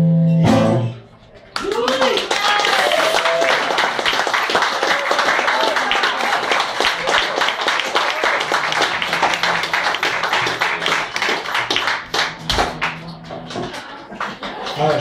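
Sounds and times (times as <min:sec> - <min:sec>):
audience clapping: 0:01.5 - 0:15.0.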